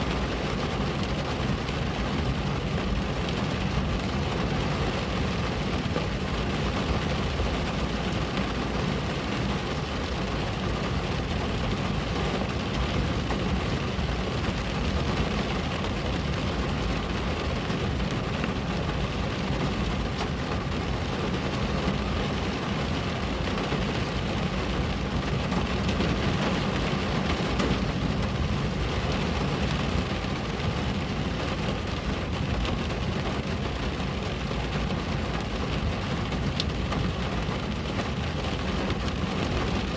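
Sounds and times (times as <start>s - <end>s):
continuous low rumble: 0.0s - 39.9s
rain on a window: 0.0s - 39.9s.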